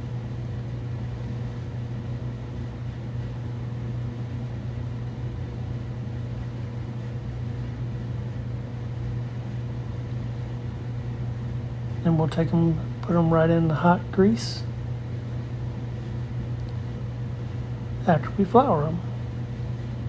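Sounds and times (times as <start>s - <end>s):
motor hum with faint whine: 0.0s - 20.0s.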